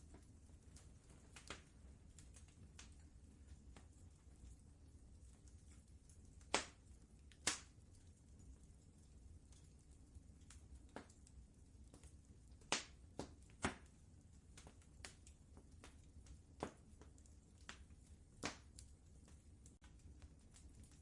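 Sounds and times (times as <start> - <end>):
low steady rumble: 0.0 - 21.0
wood fire crackling and popping: 0.0 - 21.0.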